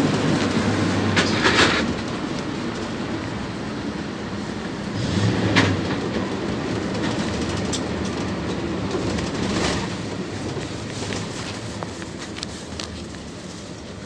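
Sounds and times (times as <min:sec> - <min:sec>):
bus engine hum: 0:00.0 - 0:14.0
road noise: 0:00.0 - 0:14.0.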